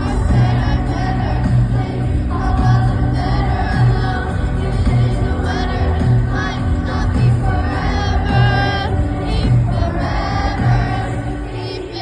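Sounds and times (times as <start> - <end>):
voices singing over a beat: 0.0 - 12.0.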